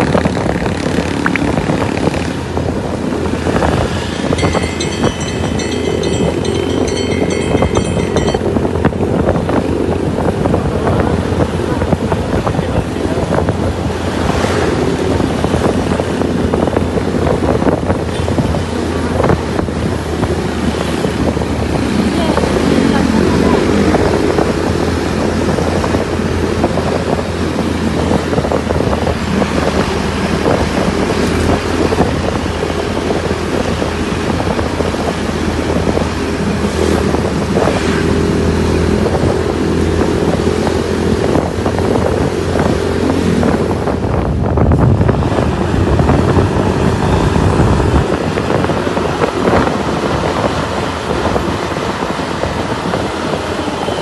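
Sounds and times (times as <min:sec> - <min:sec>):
vehicle engine and road noise: 0:00.0 - 0:54.0
wind buffeting microphone: 0:00.0 - 0:54.0.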